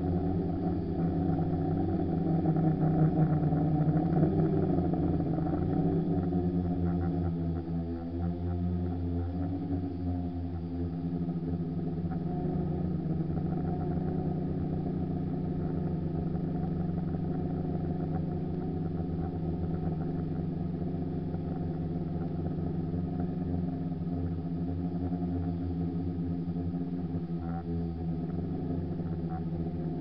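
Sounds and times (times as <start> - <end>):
drone motors buzzing: 0.0 - 30.0.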